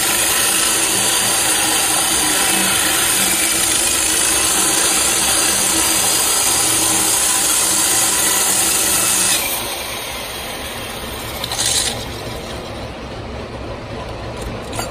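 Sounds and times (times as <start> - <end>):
core drill grinding stone: 0.0 - 12.7.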